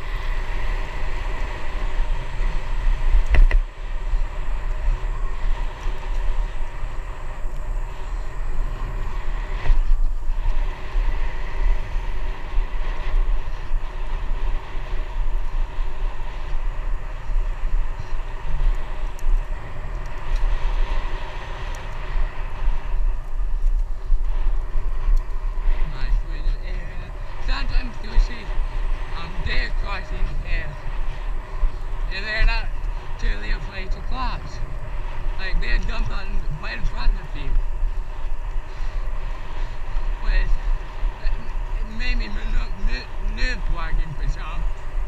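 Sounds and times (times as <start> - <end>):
bicycle tyre noise: 0.0 - 45.0
wind rumble: 0.0 - 45.0.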